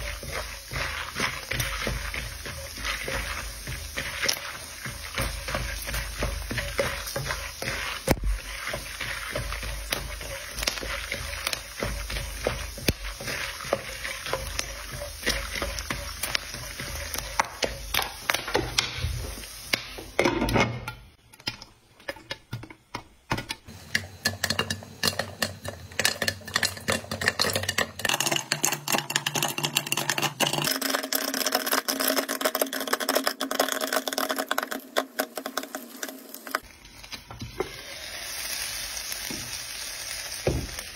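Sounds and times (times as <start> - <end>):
wooden spatula stirring: 0.0 - 20.1, 23.7 - 37.9
popcorn popping: 0.0 - 37.7
kernels sizzling in hot oil: 0.0 - 40.9.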